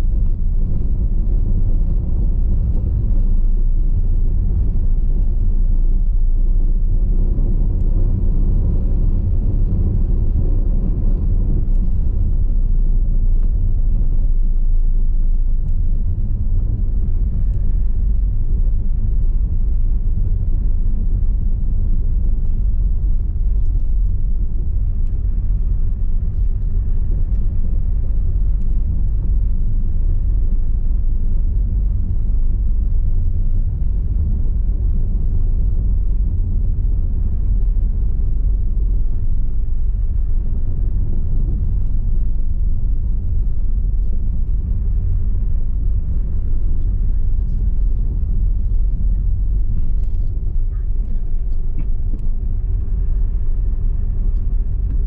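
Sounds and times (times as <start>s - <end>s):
car tyres rumbling on cobblestones: 0.0s - 55.0s.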